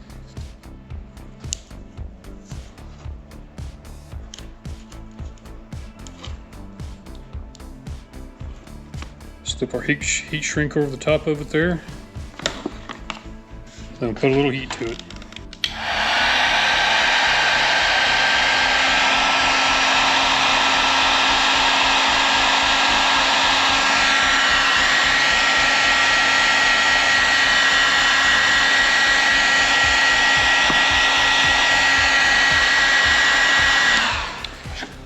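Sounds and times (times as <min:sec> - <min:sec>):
heat gun blowing air: 0:00.0 - 0:15.0, 0:15.6 - 0:35.0.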